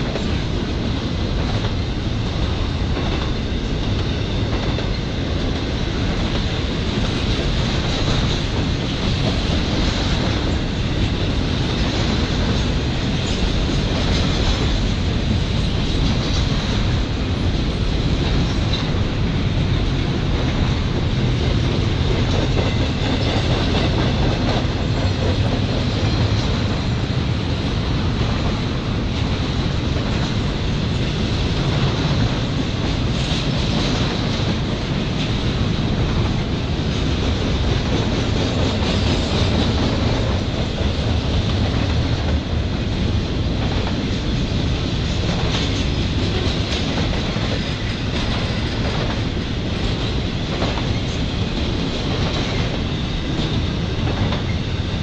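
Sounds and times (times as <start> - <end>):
train wheel clacks: 0.0 - 55.0
train wheels rumbling on rail: 0.0 - 55.0.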